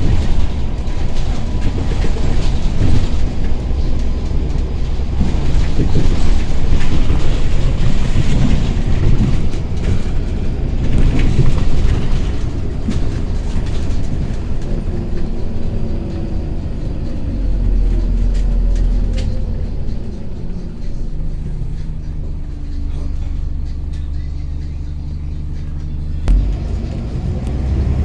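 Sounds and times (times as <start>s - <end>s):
bus body rattling: 0.0s - 28.0s
bus engine droning: 0.0s - 28.0s.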